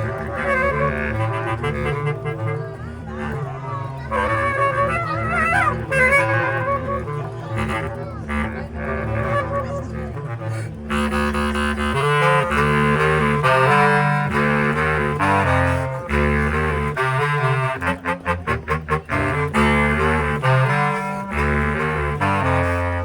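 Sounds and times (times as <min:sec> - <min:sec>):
bass clarinet quartet playing: 0:00.0 - 0:23.0.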